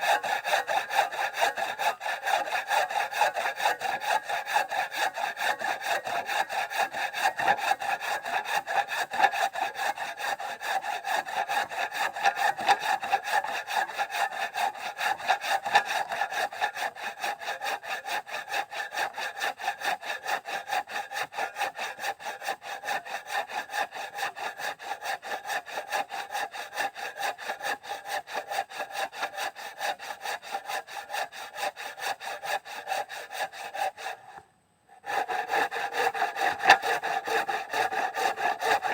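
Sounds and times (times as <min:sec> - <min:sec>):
hand saw cutting wood: 0:00.0 - 0:38.9.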